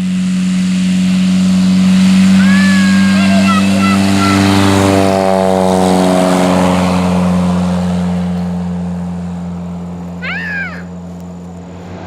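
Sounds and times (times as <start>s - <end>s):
airplane engine and propeller: 0.0s - 12.0s.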